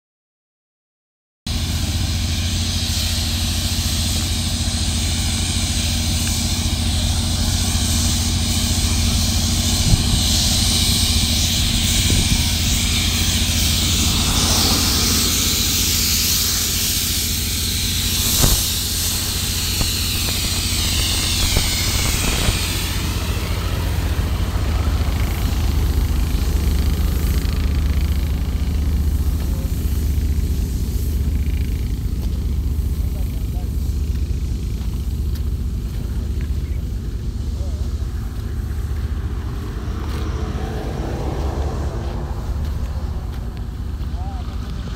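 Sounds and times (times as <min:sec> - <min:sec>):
engine running: 0:01.5 - 0:44.9
hiss of sprayed hot tar: 0:01.5 - 0:44.9.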